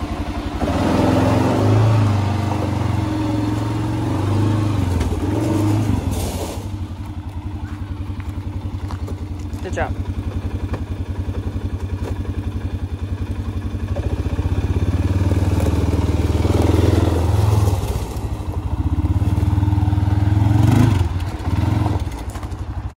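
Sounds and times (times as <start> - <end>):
quad bike engine running: 0.0 - 23.0.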